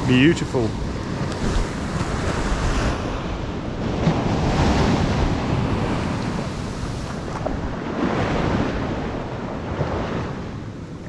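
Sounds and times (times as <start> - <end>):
surf washing up a beach: 0.0 - 11.0
wind buffeting microphone: 0.0 - 11.0.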